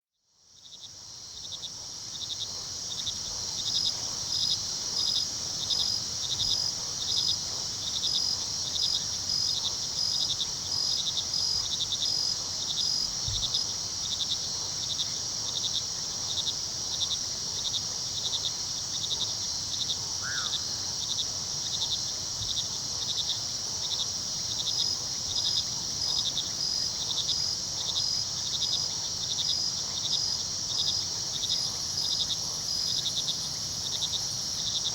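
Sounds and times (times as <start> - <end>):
insect chirping in a pulse: 0.3 - 34.9
crickets trilling: 0.5 - 34.9.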